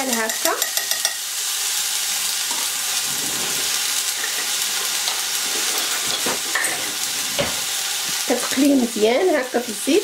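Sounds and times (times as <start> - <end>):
grains sizzling in hot oil: 0.0 - 10.0.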